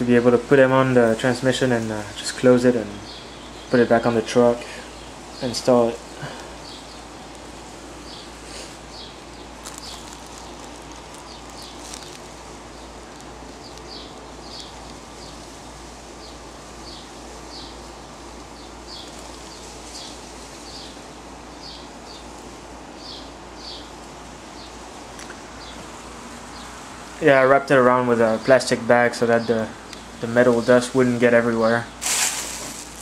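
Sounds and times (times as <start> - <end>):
background hiss: 0.0 - 33.0.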